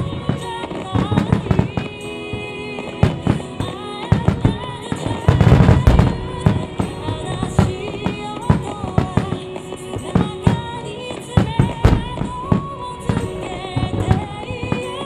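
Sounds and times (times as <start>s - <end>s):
fireworks bursting with loud bangs: 0.0s - 15.0s
music over loudspeakers: 0.0s - 15.0s.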